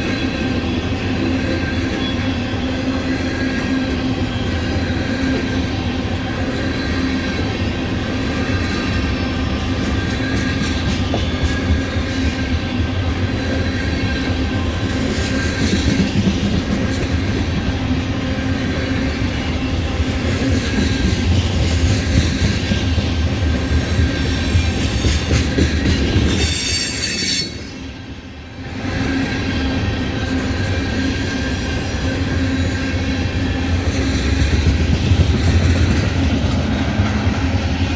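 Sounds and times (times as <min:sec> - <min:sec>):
freight train rumbling past: 0:00.0 - 0:37.9
train wheels squealing: 0:00.0 - 0:37.9.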